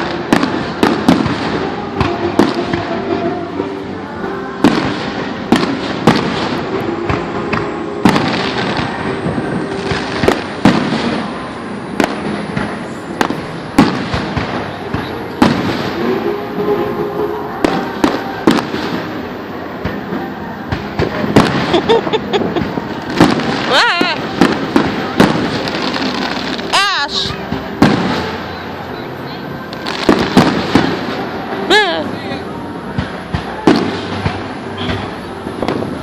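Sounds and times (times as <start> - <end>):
fireworks bangs: 0.0 - 32.1, 32.8 - 36.0
fireworks crackling: 0.0 - 36.0.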